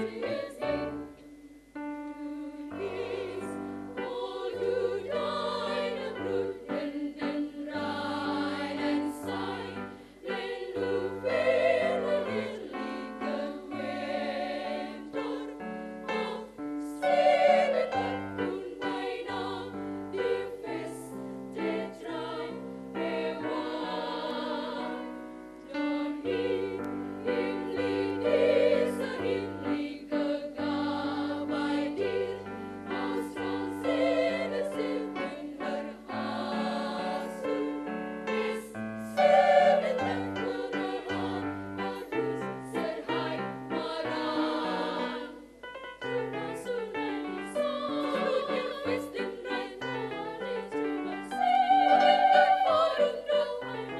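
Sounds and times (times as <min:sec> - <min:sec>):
women's choir singing: 0:00.0 - 0:01.2, 0:01.8 - 0:53.9.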